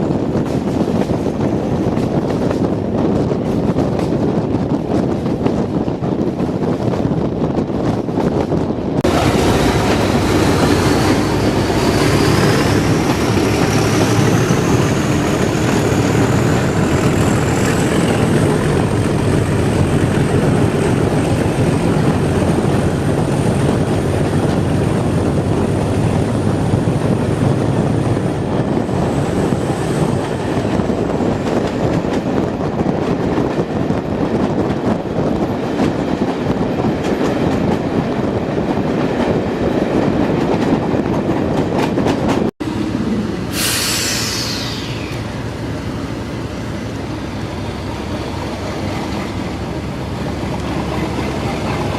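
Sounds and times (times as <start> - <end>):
diesel train rumble and whine: 0.0 - 51.9.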